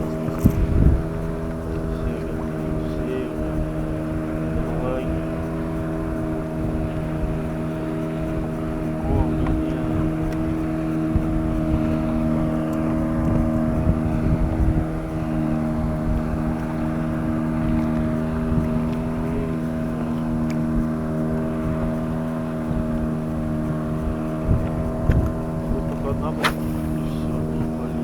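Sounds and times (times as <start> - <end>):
motor droning hum: 0.0 - 28.0
wind rumble on microphone: 0.0 - 28.0.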